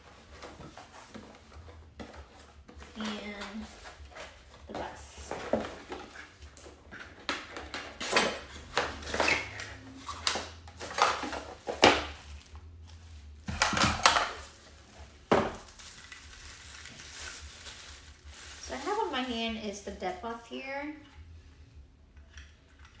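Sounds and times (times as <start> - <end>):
cardboard packaging rustling: 0.0 - 19.6.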